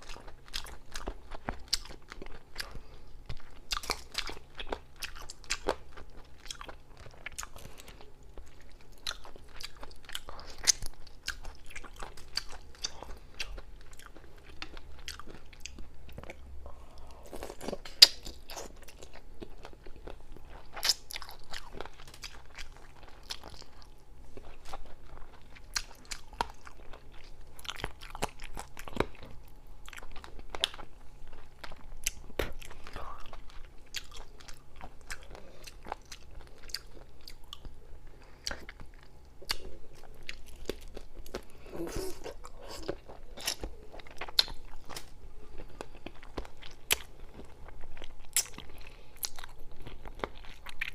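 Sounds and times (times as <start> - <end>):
chewing and crunching: 0.0 - 50.9.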